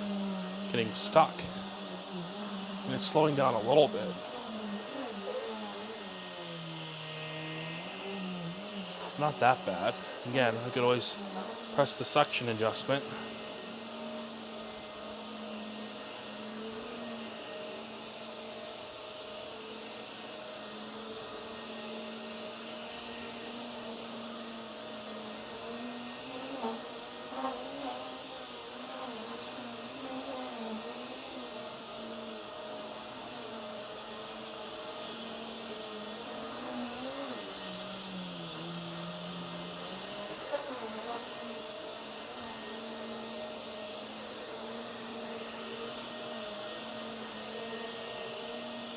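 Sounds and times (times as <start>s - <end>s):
vacuum cleaner running: 0.0s - 48.9s.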